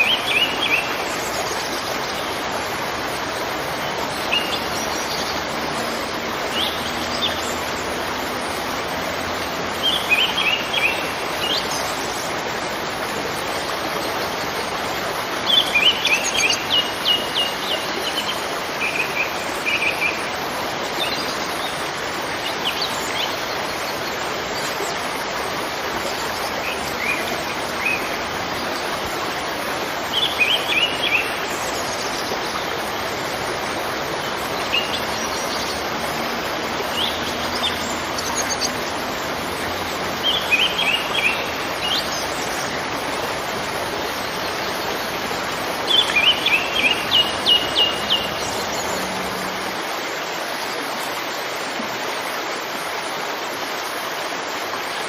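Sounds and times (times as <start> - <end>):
birds chirping: 0.0 - 50.8
waterfall rushing: 0.0 - 55.0.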